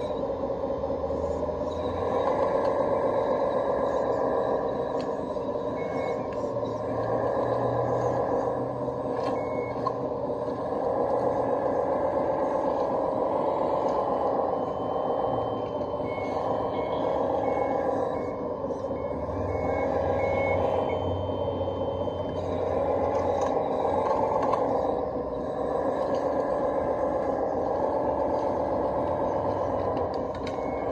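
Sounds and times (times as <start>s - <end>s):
reversing alarm beeps: 0.0s - 30.9s
toy loader mechanical whine: 0.0s - 30.9s.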